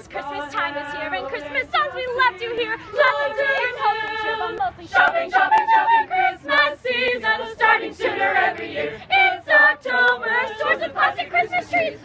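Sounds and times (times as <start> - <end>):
choir singing a cappella: 0.0 - 12.0.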